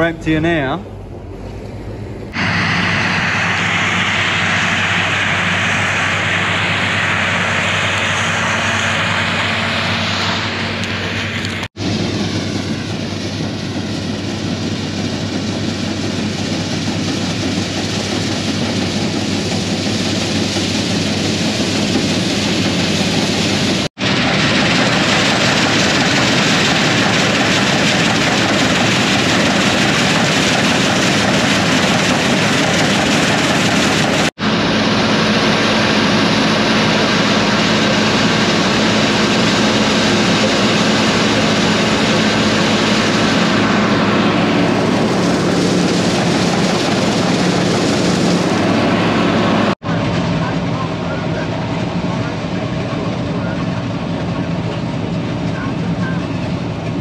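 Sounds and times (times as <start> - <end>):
combine harvester mechanical drone: 0.0 - 57.0.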